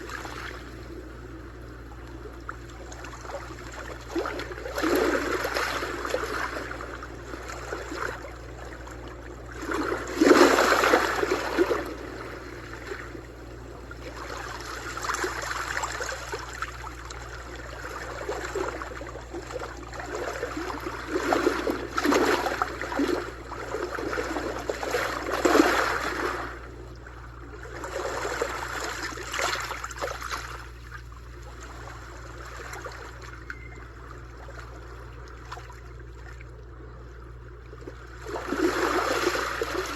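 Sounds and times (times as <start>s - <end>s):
ocean waves breaking: 0.0s - 33.4s, 37.8s - 39.9s.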